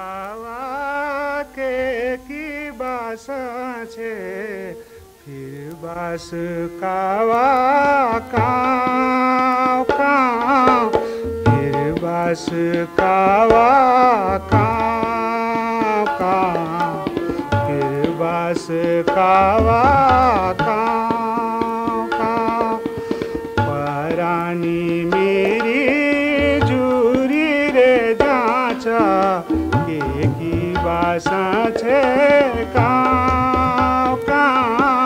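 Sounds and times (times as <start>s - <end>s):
tabla beat: 4.5s - 35.0s.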